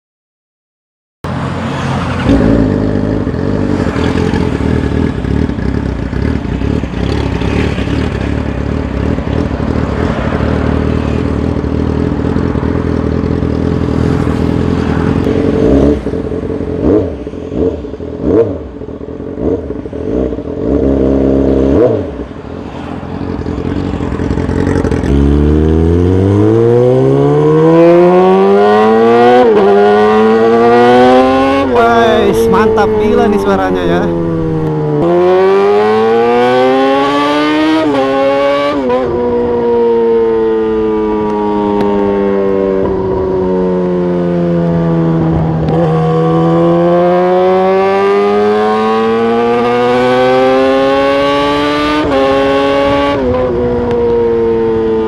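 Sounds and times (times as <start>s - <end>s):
motorcycle engine revving: 1.3s - 55.0s.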